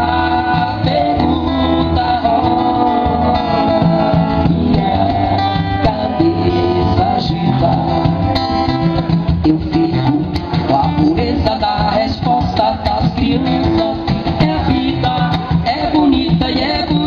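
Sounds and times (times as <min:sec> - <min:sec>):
man singing into microphone: 0:00.0 - 0:17.0
strummed electric guitar: 0:00.0 - 0:17.0.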